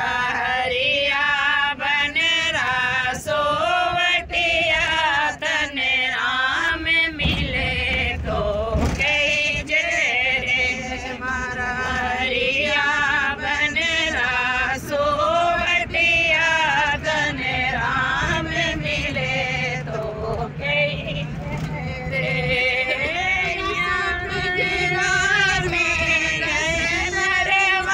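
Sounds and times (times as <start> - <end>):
group singing devotional song: 0.0 - 27.9.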